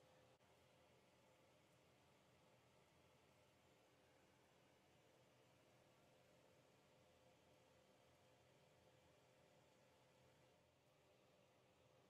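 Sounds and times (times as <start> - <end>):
faint steady hiss: 0.0 - 12.0
faint steady tone: 0.0 - 12.0.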